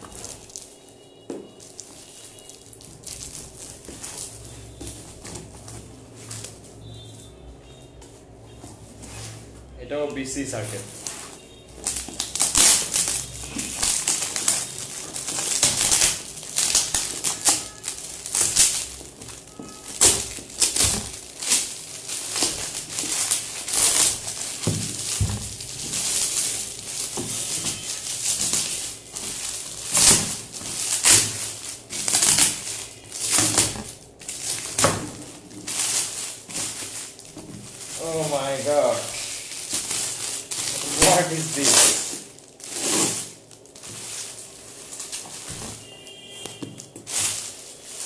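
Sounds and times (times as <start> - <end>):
wrapping paper tearing and crumpling: 0.0 - 0.9, 1.6 - 6.6, 10.4 - 48.0.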